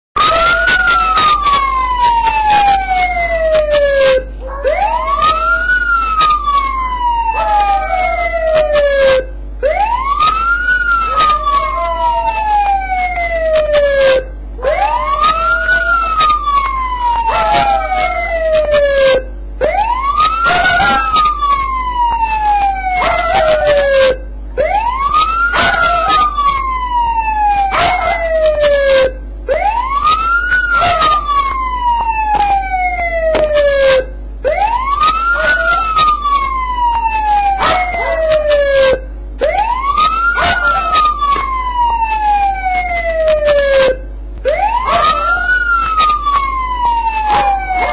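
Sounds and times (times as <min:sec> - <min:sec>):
dog howling: 0:00.2 - 0:03.3, 0:04.0 - 0:08.7, 0:10.1 - 0:13.4, 0:14.0 - 0:19.1, 0:20.2 - 0:21.8, 0:22.4 - 0:24.2, 0:25.0 - 0:32.6, 0:33.7 - 0:47.9
police siren wailing: 0:00.2 - 0:47.9.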